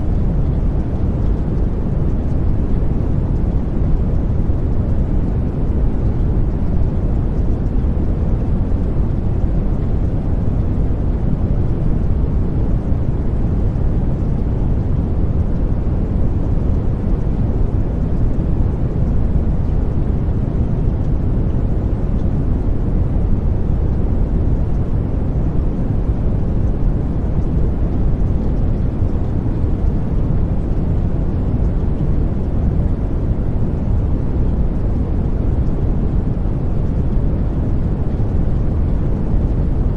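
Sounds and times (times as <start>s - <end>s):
low rumbling noise: 0.0s - 39.9s.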